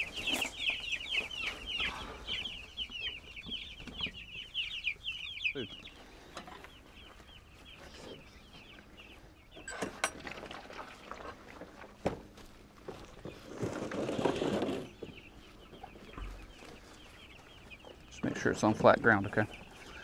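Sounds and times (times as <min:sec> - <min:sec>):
chickens peeping and clucking: 0:00.0 - 0:20.0.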